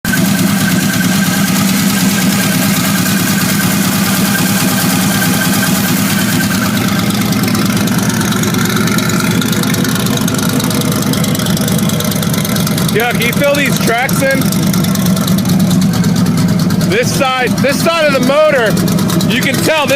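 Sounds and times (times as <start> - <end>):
car engine idling: 0.0 - 19.9
valvetrain ticking: 0.1 - 19.9.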